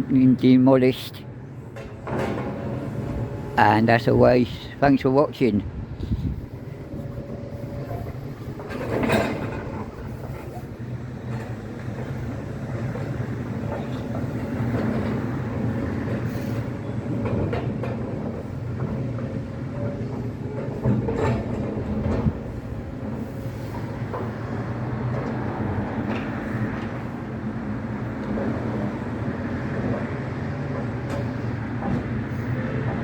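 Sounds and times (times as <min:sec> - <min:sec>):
excavator diesel engine running: 0:00.1 - 0:33.0.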